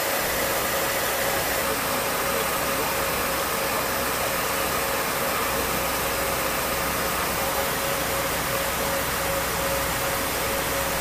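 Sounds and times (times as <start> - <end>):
faint steady whining tones: 0.0 - 11.0
jet engines rushing: 0.0 - 11.0.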